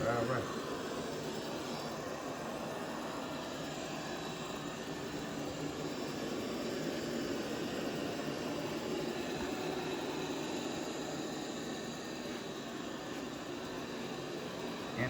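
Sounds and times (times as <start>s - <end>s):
robot vacuum motor running: 0.0s - 15.0s.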